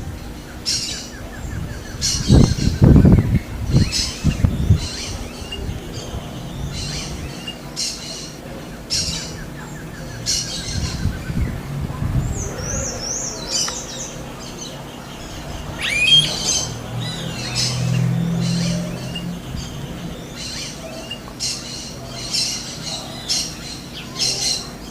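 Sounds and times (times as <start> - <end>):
wild birds chirping and trilling: 0.0 - 24.9.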